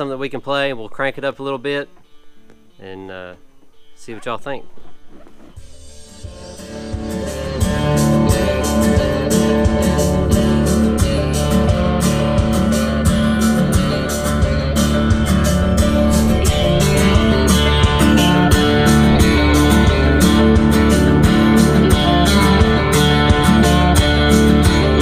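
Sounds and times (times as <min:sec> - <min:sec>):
guitar music with steady beat: 0:01.3 - 0:25.0.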